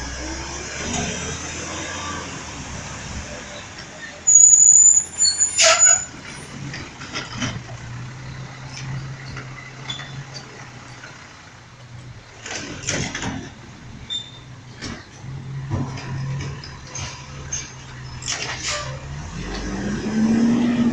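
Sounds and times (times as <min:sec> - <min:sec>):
garbage truck engine droning: 0:00.0 - 0:20.9.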